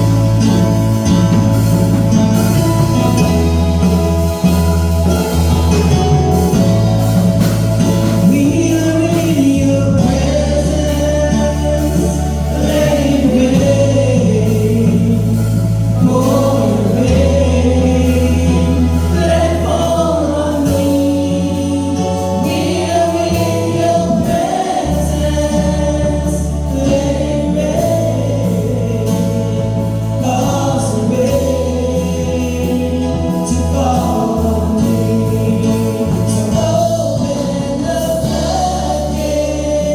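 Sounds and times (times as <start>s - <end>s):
choir singing a hymn: 0.0s - 39.9s
sustained bass chords: 0.0s - 39.9s.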